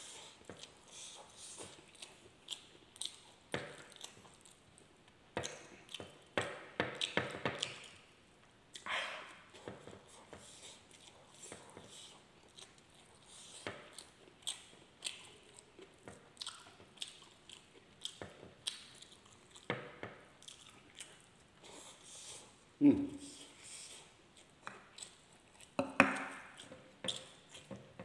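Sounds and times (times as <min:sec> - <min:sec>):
wet chewing and lip smacks: 0:00.1 - 0:08.1, 0:08.7 - 0:19.7, 0:20.4 - 0:22.0, 0:23.4 - 0:27.8.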